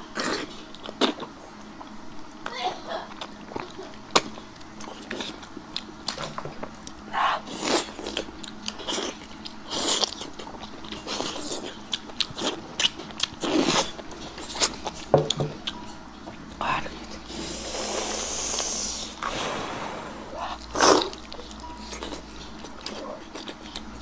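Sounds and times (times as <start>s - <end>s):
close-miked chewing: 0.1s - 17.3s, 20.4s - 24.0s.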